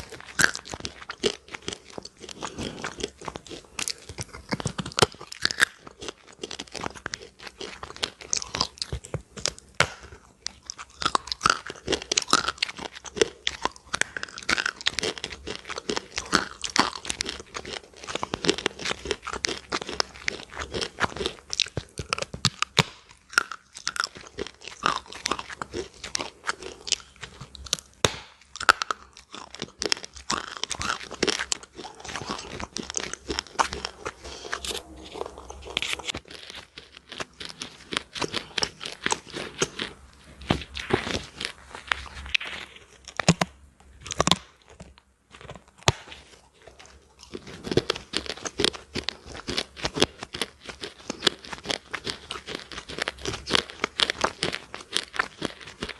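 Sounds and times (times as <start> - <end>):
crunching and chewing: 0.0 - 55.9.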